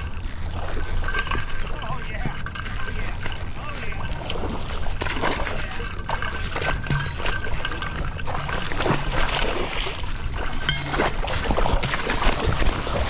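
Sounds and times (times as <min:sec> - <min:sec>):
fish splashing in water: 0:00.0 - 0:13.0
water sloshing: 0:00.0 - 0:13.0.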